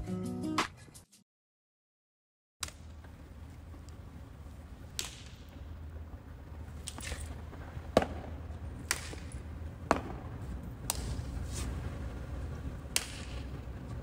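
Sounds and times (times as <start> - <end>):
steady low rumble: 2.7 - 14.0.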